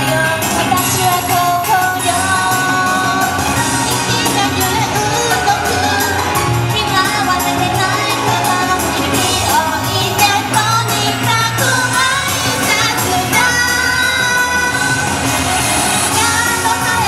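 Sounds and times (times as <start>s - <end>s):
instrumental backing with beat: 0.0s - 17.0s
women singing pop song: 0.0s - 17.0s.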